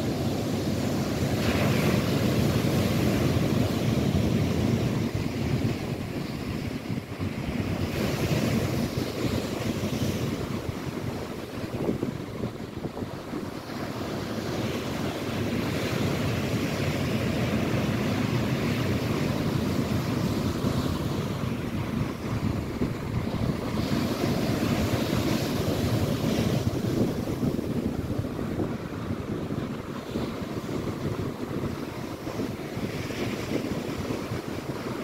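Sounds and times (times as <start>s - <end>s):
waves breaking on shore: 0.0s - 35.0s
wind buffeting microphone: 0.0s - 35.0s.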